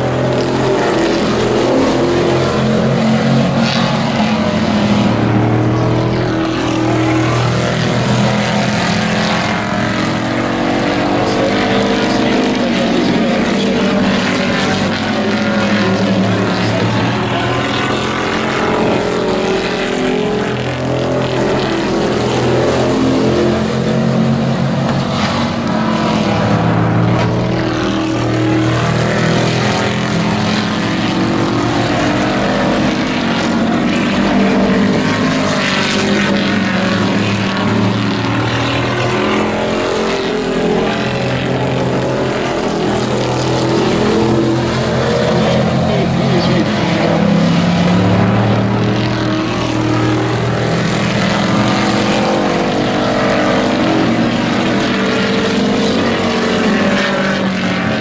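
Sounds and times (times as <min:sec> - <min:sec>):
racing truck engines accelerating: 0:00.0 - 0:58.0.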